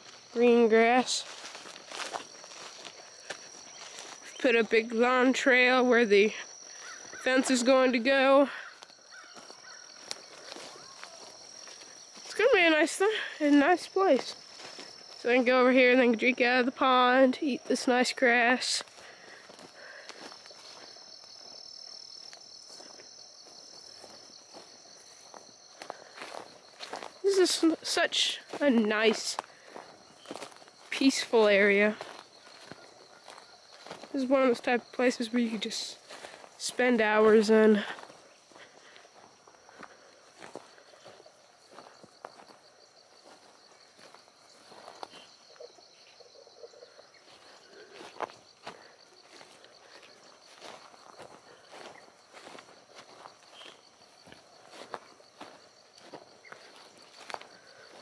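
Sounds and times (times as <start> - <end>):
insects trilling in grass: 0.0 - 58.0.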